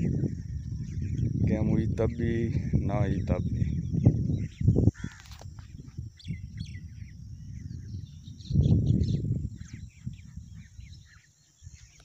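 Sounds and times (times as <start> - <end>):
low rumble on microphone: 0.0 - 12.0
small birds chirping: 0.0 - 12.0.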